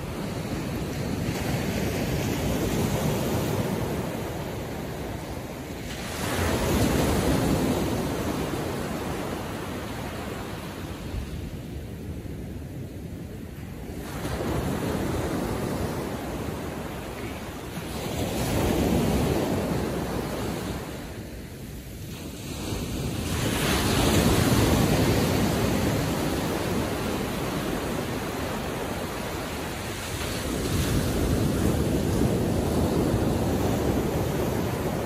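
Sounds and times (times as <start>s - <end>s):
ocean waves breaking: 0.0s - 35.0s.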